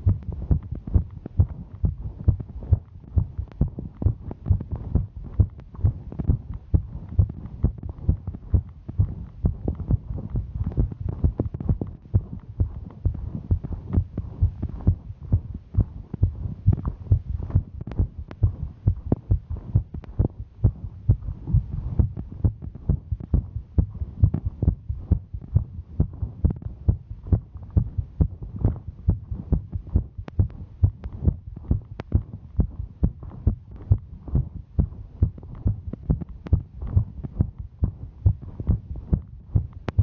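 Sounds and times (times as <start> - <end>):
fast heartbeat thumps: 0.0 - 40.0.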